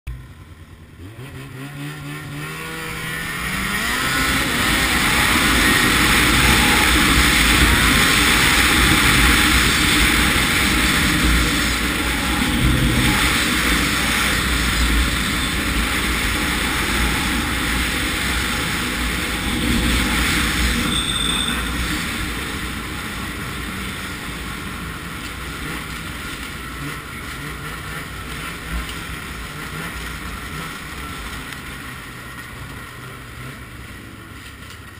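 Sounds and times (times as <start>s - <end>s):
snowmobile engine accelerating: 0.1s - 34.9s.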